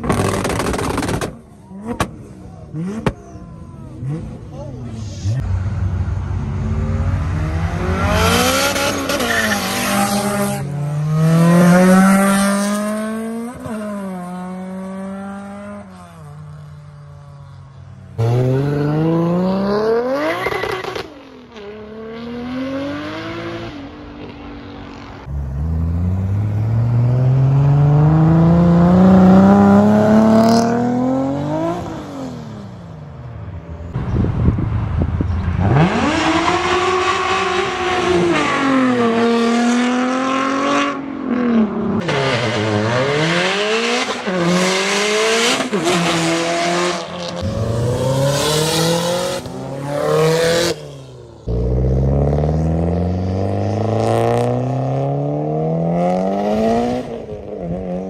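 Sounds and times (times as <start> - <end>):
car engines accelerating hard: 0.0 - 58.0.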